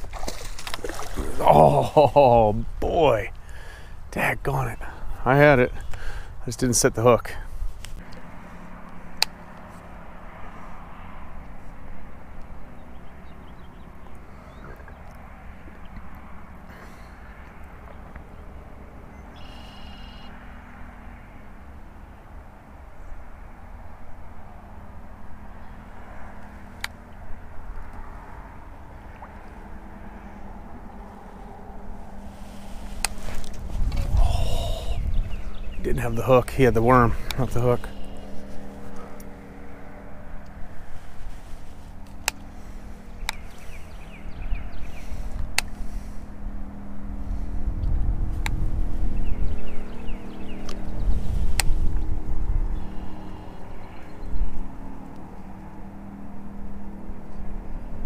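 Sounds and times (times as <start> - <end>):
faint steady hum: 0.0 - 58.0
steady low rumble: 0.0 - 58.0.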